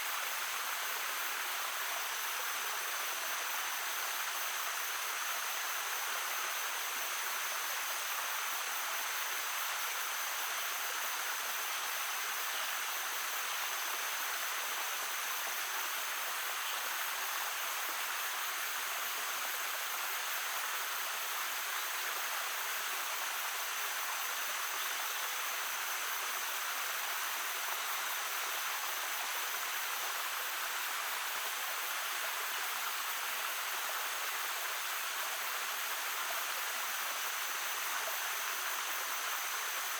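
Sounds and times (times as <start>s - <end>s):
babbling stream: 0.0s - 39.9s.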